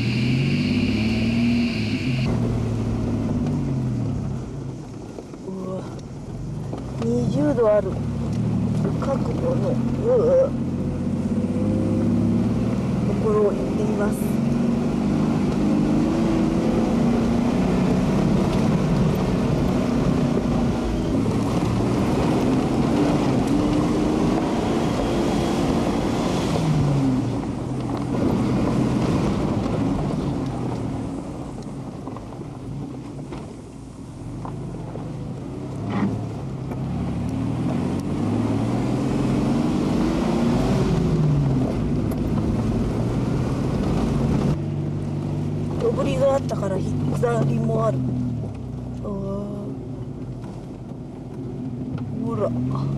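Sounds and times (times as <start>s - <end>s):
vehicle engine from inside cabin: 0.0s - 52.9s.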